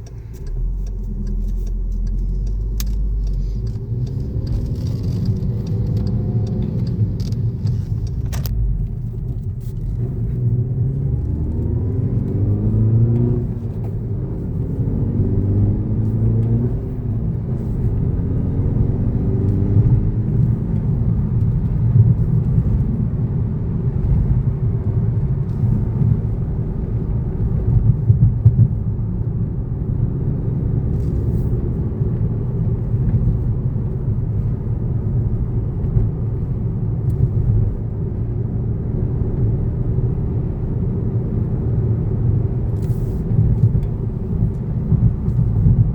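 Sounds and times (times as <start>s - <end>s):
car engine accelerating through gears: 0.0s - 45.9s
low road rumble: 0.0s - 45.9s.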